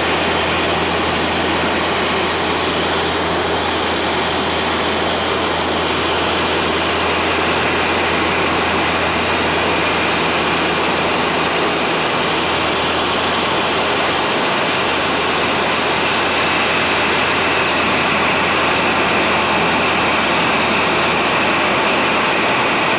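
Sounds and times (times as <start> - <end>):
turboprop engines droning: 0.0 - 22.9.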